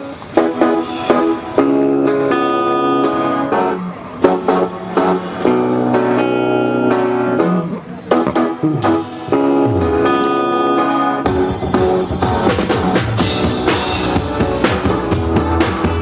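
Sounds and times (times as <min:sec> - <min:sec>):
strummed electric guitar pop song: 0:00.0 - 0:16.0.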